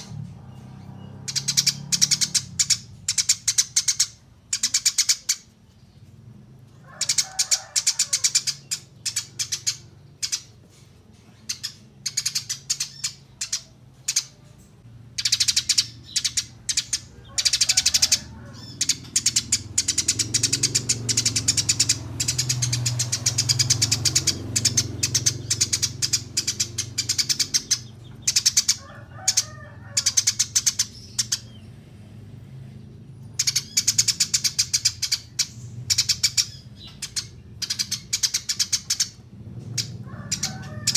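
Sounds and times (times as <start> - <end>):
sparrow chirping: 0.0 - 40.9.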